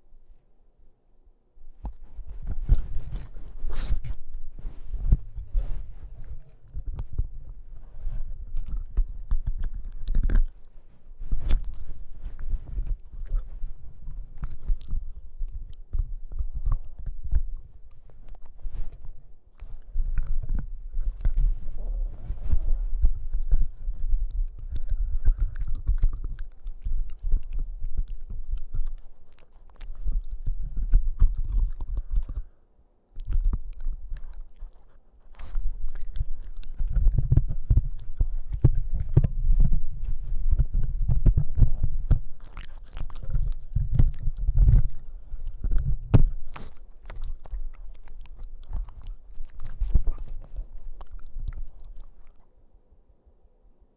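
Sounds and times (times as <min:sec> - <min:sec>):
puppy chewing microphone: 0:01.6 - 0:52.6.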